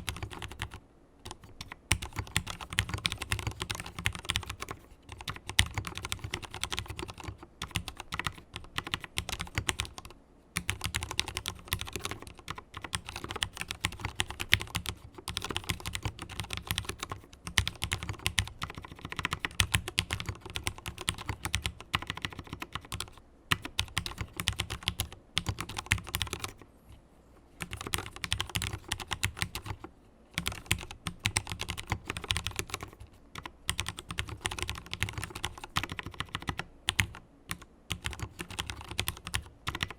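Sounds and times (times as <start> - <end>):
typing on mechanical keyboard: 0.0 - 26.6, 27.6 - 39.9.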